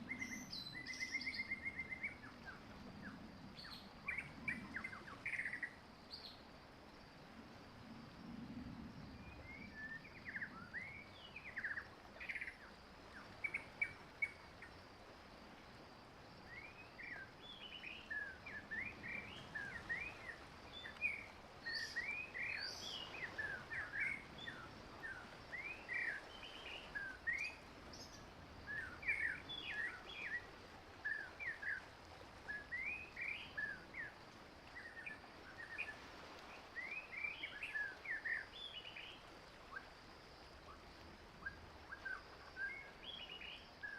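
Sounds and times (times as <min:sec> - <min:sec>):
faint steady hiss: 0:00.0 - 0:43.9.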